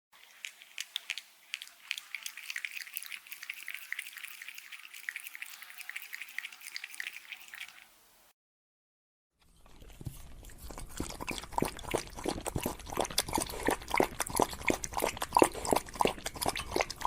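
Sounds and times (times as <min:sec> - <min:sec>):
animal lapping water: 0:00.2 - 0:08.0, 0:09.7 - 0:17.0
water dripping: 0:00.2 - 0:08.2, 0:11.3 - 0:17.0.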